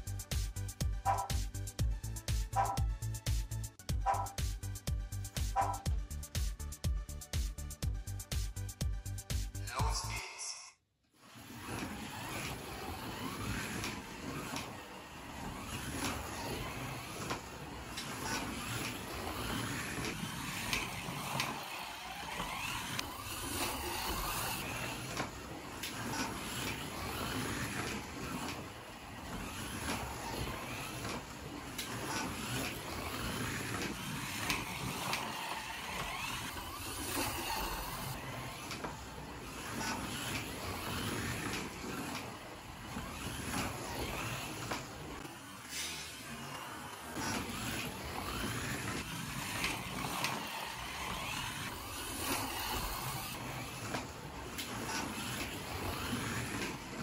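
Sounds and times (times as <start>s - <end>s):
slot car electric motor whining: 0.0s - 3.2s, 4.0s - 6.2s, 11.2s - 57.0s.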